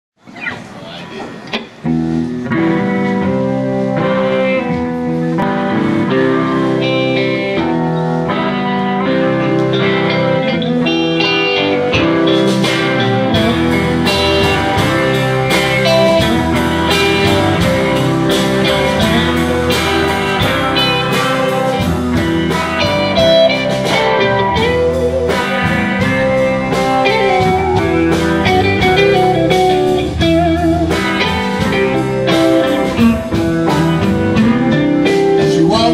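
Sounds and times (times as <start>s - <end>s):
bass guitar: 0.2s - 35.9s
electric guitars: 0.2s - 35.9s
drum kit beat: 1.3s - 35.9s.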